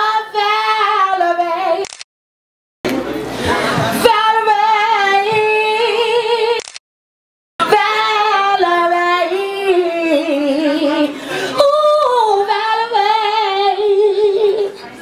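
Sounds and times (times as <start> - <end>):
woman singing into a microphone: 0.0 - 1.8, 3.5 - 6.6, 7.6 - 14.9.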